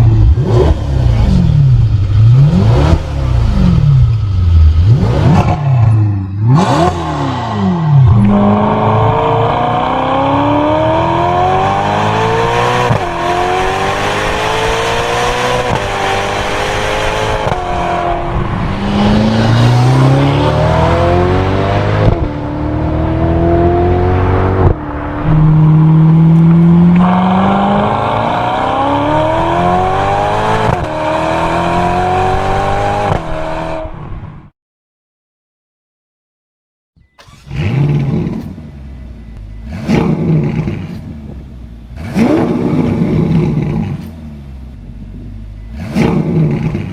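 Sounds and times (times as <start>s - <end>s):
sports car engine accelerating: 0.0s - 34.1s, 37.2s - 46.9s.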